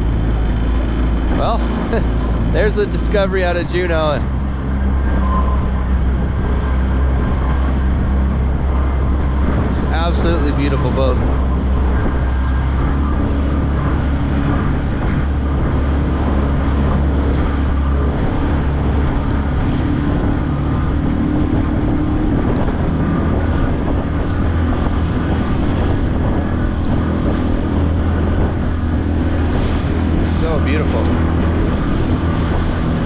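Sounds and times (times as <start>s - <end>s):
boat motor running: 0.0s - 33.0s
water rushing past hull: 0.0s - 33.0s
wind buffeting microphone: 0.0s - 33.0s.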